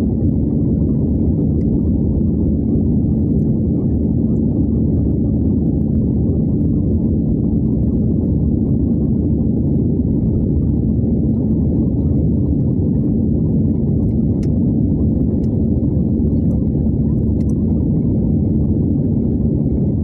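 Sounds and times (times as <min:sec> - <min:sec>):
aircraft cabin engine rumble: 0:00.0 - 0:20.0
faint steady hum: 0:00.0 - 0:20.0.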